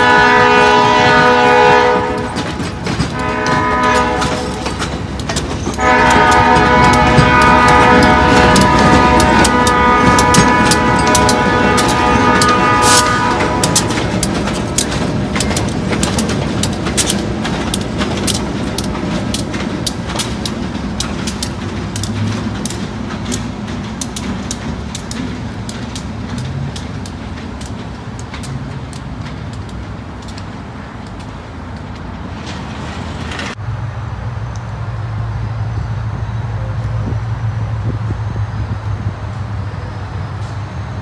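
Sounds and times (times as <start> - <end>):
train wheels clicking on rail joints: 0.0 - 33.6
diesel locomotive rumble: 0.0 - 41.0.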